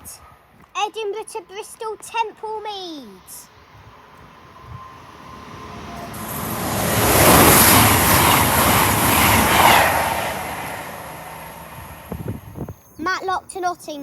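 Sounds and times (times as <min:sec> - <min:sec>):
train passing at speed: 0:01.2 - 0:13.4.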